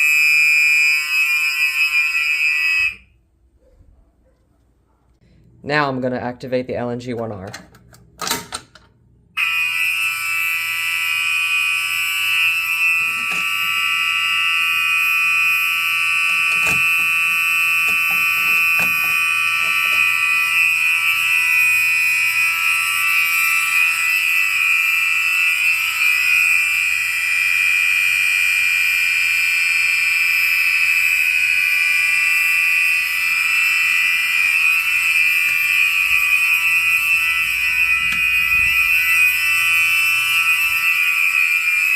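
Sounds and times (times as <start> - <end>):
fire alarm horn tone: 0.0 - 3.2, 9.3 - 41.9.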